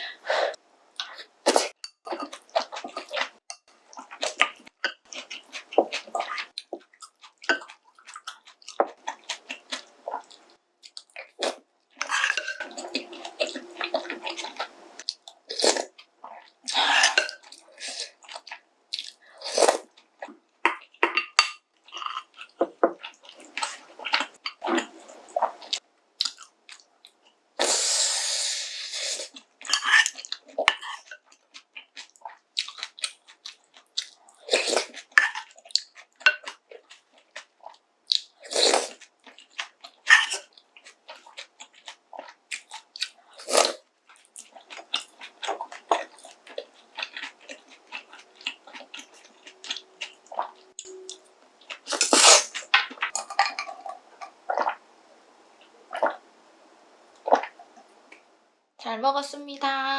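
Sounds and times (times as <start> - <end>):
close chewing and mouth clicks: 1.0 - 27.4, 29.2 - 54.8.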